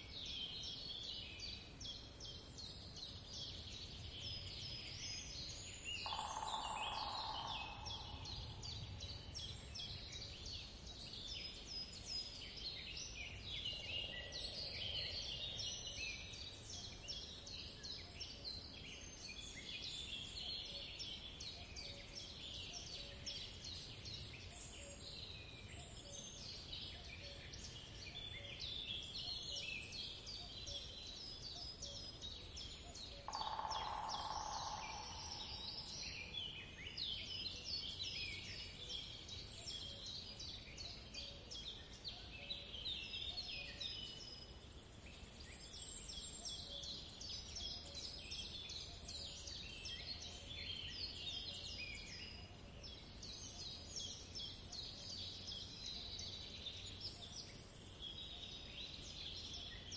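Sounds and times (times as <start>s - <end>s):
songbirds chirping chorus: 0.0s - 59.9s.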